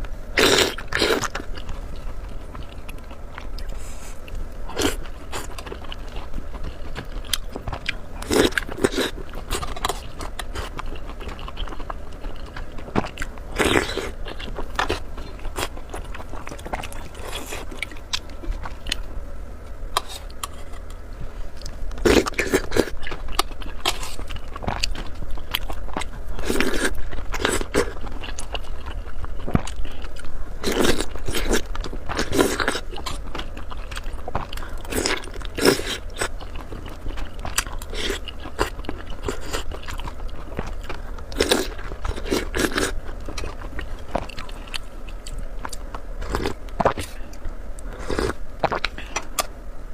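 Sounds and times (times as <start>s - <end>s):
person chewing crunchy food: 0.0s - 49.5s.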